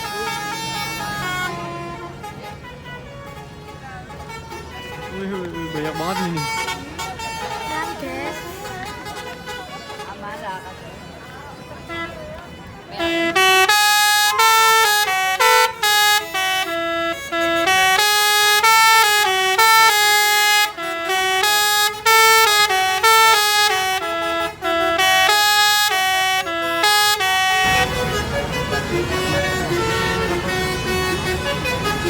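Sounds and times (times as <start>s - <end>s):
bus engine running: 0.0s - 10.1s, 10.7s - 32.0s
multi-tone bus air horn melody: 0.0s - 32.0s.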